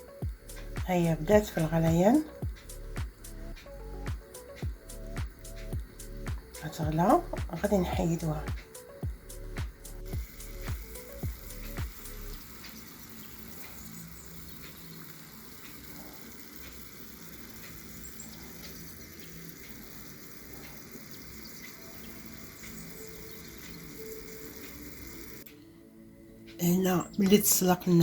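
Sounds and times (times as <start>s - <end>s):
water boiling in a saucepan: 0.0s - 25.5s.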